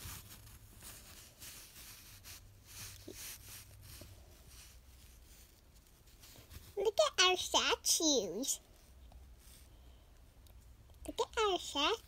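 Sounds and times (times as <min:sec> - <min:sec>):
plastic toys rustling on fabric: 0:00.0 - 0:10.4.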